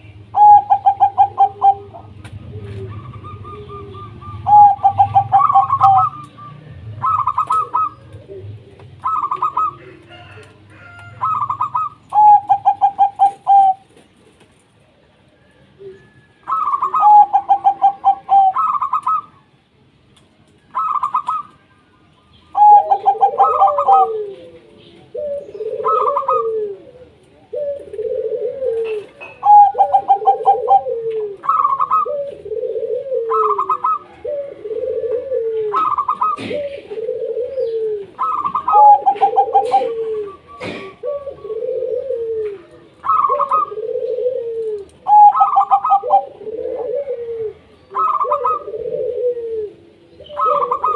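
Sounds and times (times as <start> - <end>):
doves cooing fast pulsed phrases: 0.0 - 14.0, 15.5 - 19.4, 20.7 - 21.6, 22.5 - 50.9
lower arched dove coos: 0.0 - 14.0, 14.8 - 19.5, 22.5 - 50.9.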